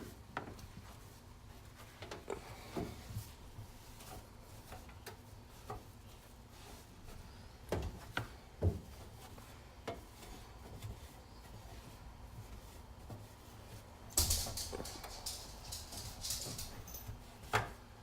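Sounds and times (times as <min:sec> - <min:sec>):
rubbing while wiping: 0:00.0 - 0:18.0.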